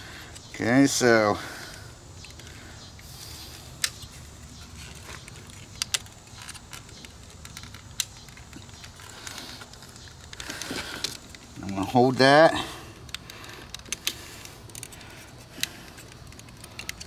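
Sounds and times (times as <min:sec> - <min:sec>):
sharp plastic clicks: 0:01.7 - 0:11.8, 0:13.0 - 0:17.0.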